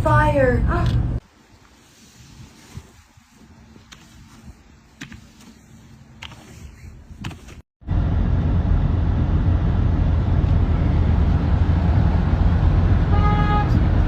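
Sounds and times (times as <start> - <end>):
moving vehicle rumble: 0.0 - 1.3, 2.1 - 14.0.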